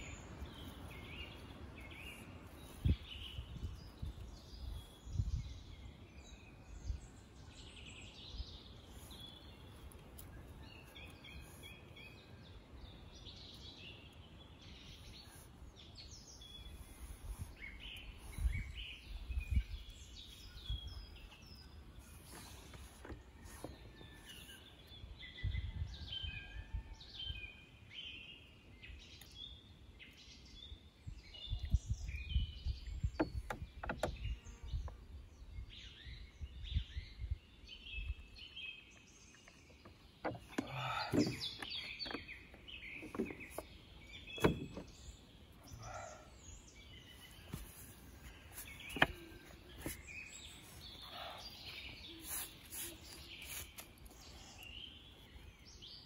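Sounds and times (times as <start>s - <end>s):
small birds chirping: 0.0s - 25.8s, 27.5s - 56.0s.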